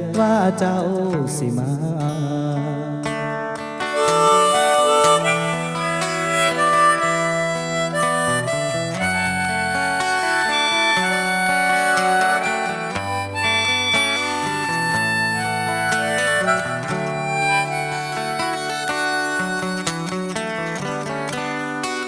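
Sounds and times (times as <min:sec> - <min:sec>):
guitar: 0:00.0 - 0:22.0
reedy held-note melody: 0:03.8 - 0:22.0.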